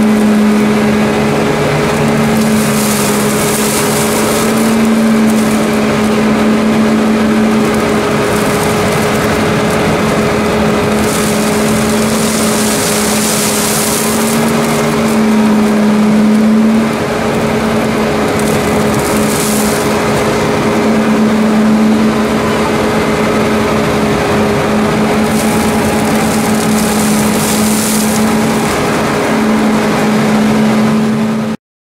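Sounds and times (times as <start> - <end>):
surging hiss: 0.0 - 16.2, 17.5 - 30.0
tractor and flail mower drone: 0.0 - 31.6.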